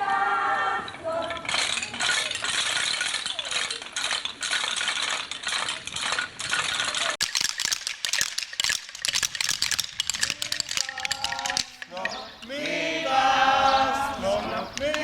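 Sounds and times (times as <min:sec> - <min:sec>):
wooden rattles clattering: 0:01.2 - 0:12.8, 0:14.0 - 0:15.0.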